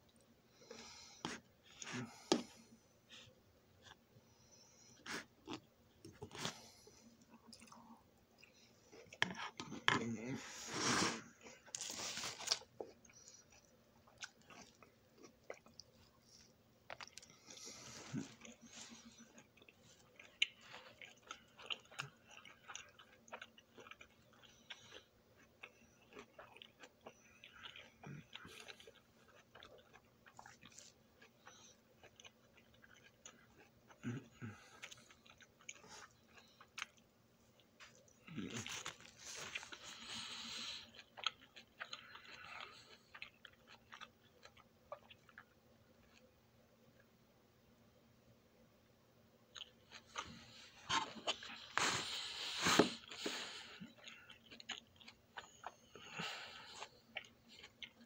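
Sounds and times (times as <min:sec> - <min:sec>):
person chewing food: 0:00.1 - 0:46.4, 0:49.5 - 0:58.0.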